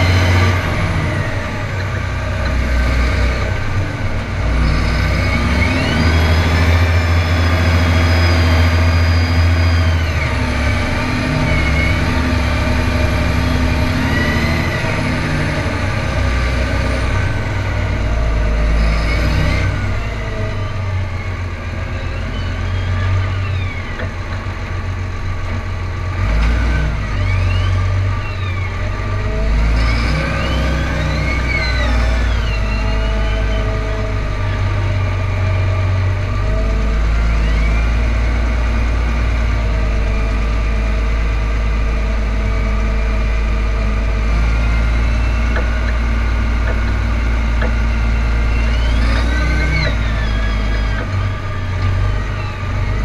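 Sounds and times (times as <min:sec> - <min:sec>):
tractor diesel engine droning: 0:00.0 - 0:53.0.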